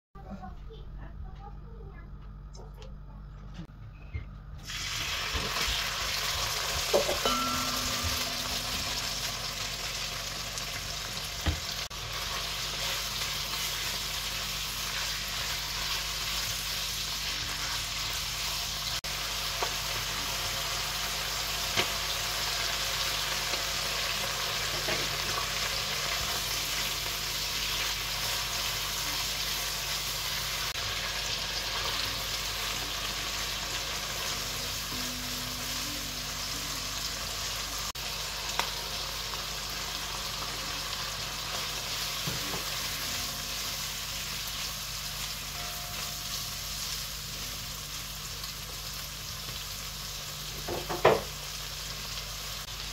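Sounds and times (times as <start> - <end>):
meat sizzling in hot oil: 4.6 - 52.9.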